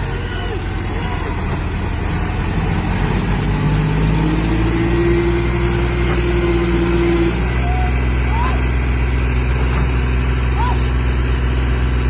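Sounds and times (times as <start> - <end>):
heavy diesel engine revving: 0.0 - 12.0.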